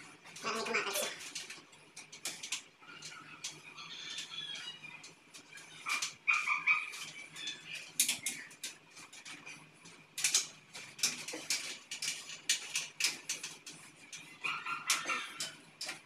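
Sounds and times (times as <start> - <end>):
wires scraping through conduit: 0.0 - 16.0.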